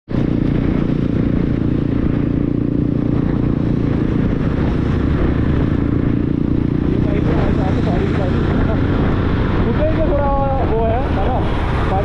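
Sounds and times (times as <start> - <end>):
motorcycle engine and road noise: 0.1 - 12.0.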